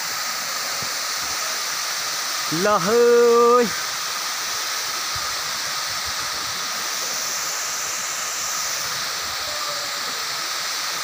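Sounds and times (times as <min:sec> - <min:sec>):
waterfall hissing: 0:00.0 - 0:11.0.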